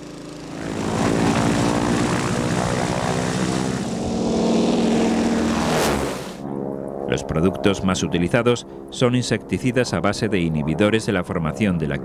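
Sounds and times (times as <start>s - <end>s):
propeller plane engine running: 0.0s - 12.0s.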